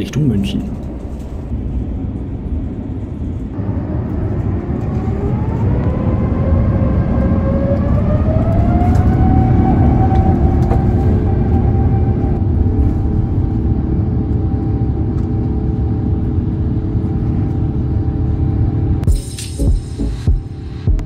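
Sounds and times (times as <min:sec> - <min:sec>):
deep engine rumble: 0:00.0 - 0:21.0
jet engine whine: 0:00.0 - 0:21.0.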